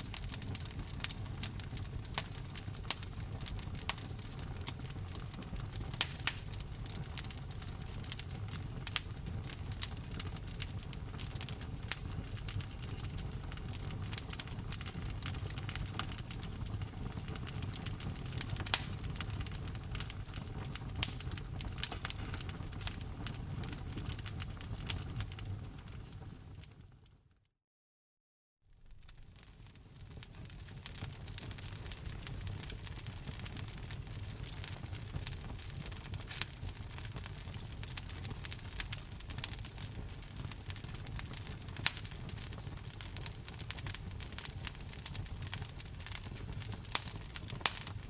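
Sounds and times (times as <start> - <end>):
wood fire crackling: 0.0 - 26.9, 28.8 - 48.0.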